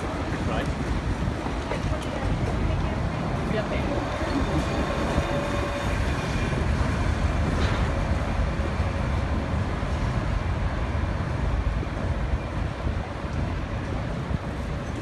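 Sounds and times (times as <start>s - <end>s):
buses passing: 0.0s - 15.0s
city traffic rumble: 0.0s - 15.0s.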